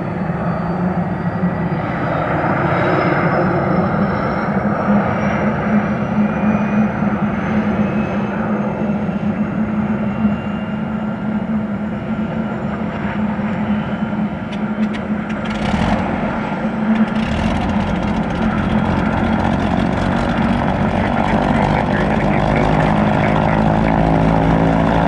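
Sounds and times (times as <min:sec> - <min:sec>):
helicopter turbine engines whining: 0:00.0 - 0:25.0
low rotor hum: 0:00.0 - 0:25.0.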